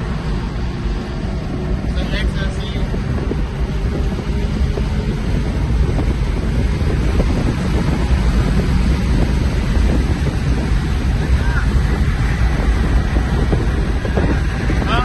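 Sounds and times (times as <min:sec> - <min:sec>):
car driving at speed: 0:00.0 - 0:15.0
wind buffeting microphone: 0:00.0 - 0:15.0.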